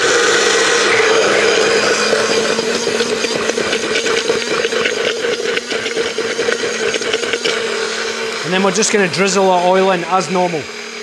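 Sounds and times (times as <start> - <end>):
stick blender running: 0.0 - 11.0
thick mixture churning: 0.0 - 11.0.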